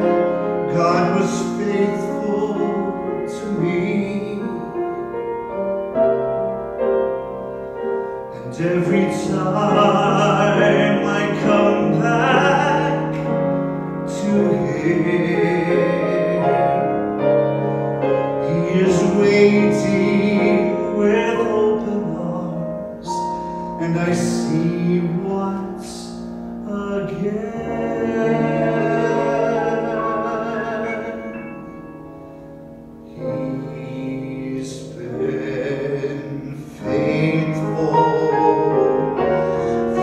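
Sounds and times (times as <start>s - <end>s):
man singing: 0.0s - 5.2s, 8.3s - 31.9s, 33.1s - 40.0s
grand piano: 0.0s - 40.0s.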